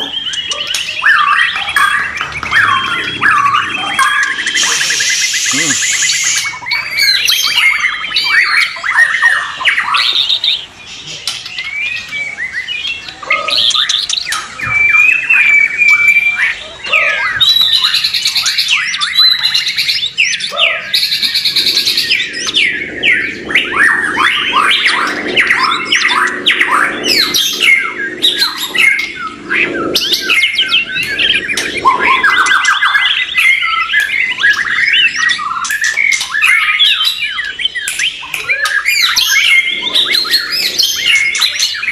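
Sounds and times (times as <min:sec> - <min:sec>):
birds singing: 0:00.0 - 0:41.9.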